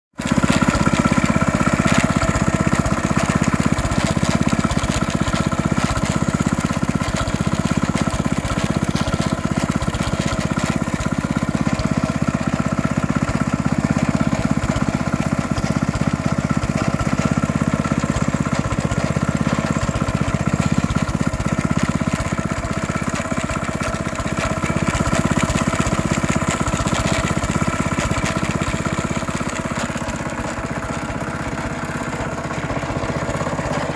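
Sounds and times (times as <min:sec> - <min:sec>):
engine running steadily: 0:00.2 - 0:33.9
rattling grinding noise: 0:00.2 - 0:33.9.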